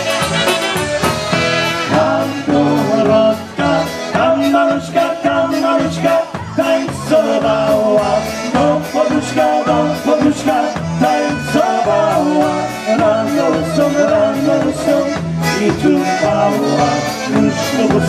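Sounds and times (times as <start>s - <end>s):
bass alternating low notes: 0.0s - 18.0s
polka band playing: 0.0s - 18.0s.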